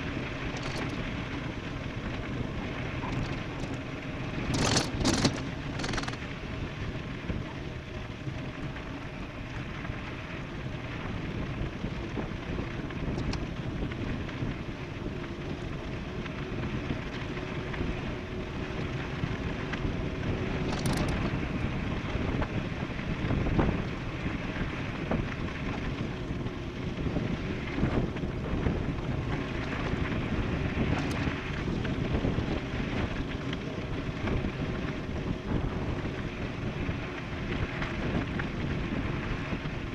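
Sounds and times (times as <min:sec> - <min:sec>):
road rumble: 0:00.0 - 0:39.9
wind rushing over microphone: 0:00.0 - 0:39.9.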